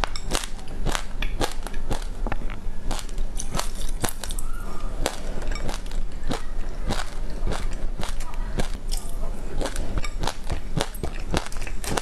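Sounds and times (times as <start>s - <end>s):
chewing crunchy seeds: 0.0s - 12.0s.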